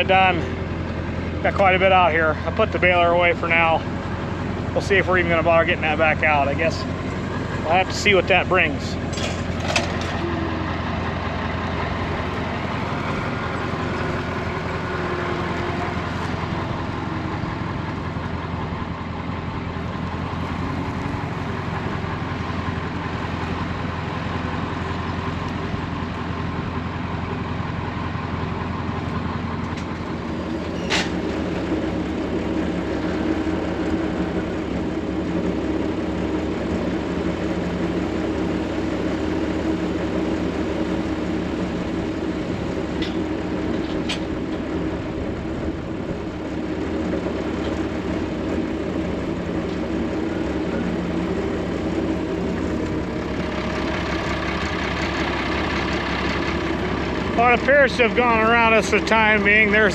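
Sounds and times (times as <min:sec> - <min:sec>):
farm machinery engine droning: 0:00.0 - 0:59.9.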